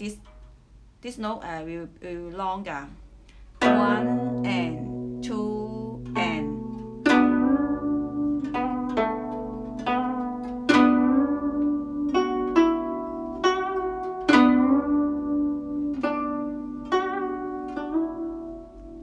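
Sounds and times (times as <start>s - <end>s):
plucked zither notes: 3.4s - 19.0s.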